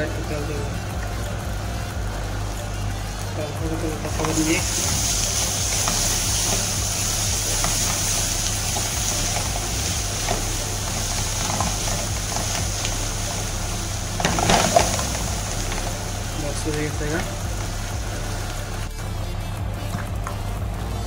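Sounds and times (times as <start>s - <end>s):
food sizzling in a pot: 0.0s - 21.0s.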